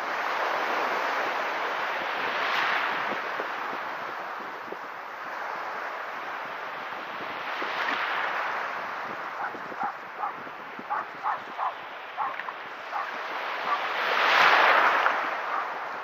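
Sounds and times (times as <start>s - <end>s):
sea waves washing over sand: 0.0s - 16.0s.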